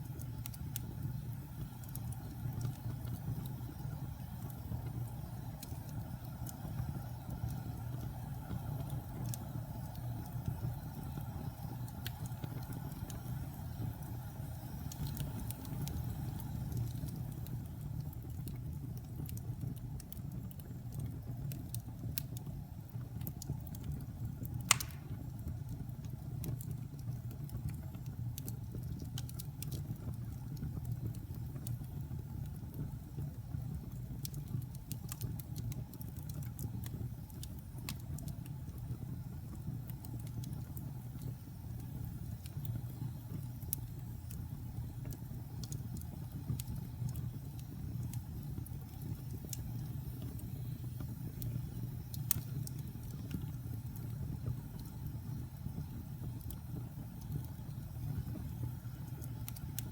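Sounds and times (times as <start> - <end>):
fire crackles and pops: 0.0 - 59.9
fire rumbling in fireplace: 0.0 - 59.9.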